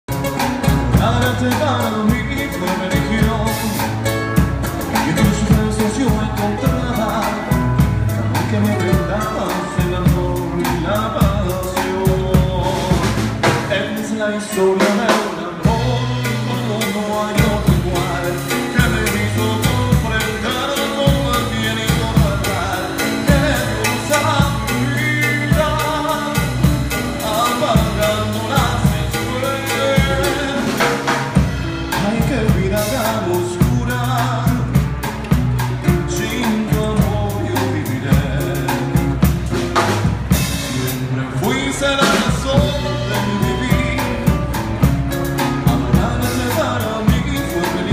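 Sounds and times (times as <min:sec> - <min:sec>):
drum kit beat: 0:00.0 - 0:47.9
acoustic guitars: 0:00.1 - 0:47.9
person singing: 0:00.1 - 0:47.9.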